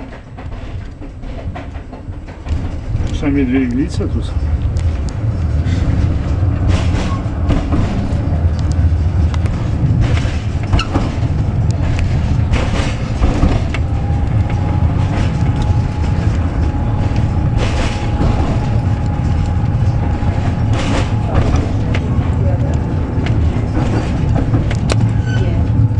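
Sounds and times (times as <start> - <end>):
clacks over rail joints: 0.0 - 25.9
tram wheels rumbling on rail: 0.0 - 25.9.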